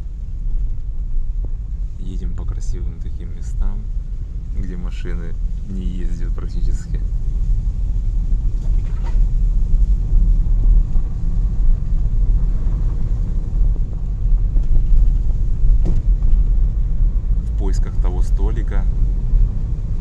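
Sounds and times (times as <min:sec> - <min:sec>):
car driving on rough dirt track: 0:00.0 - 0:20.0.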